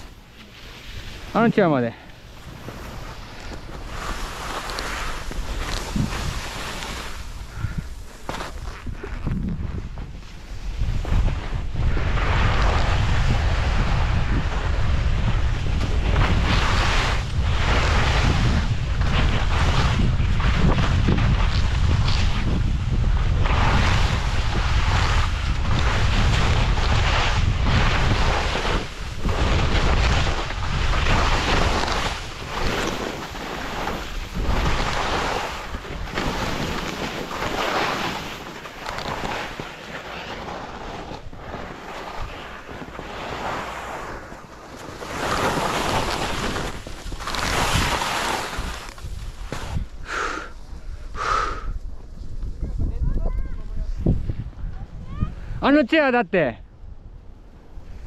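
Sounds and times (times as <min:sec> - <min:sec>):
skis scraping through snow: 0:00.0 - 0:51.4
wind buffeting microphone: 0:02.2 - 0:39.2, 0:45.0 - 0:55.6.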